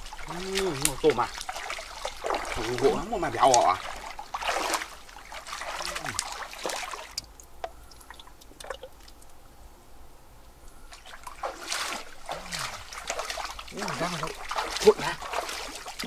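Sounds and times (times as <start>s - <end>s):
water splashing around legs: 0.0s - 9.3s, 10.9s - 16.0s
water trickling with drips: 0.0s - 9.6s, 10.4s - 16.0s.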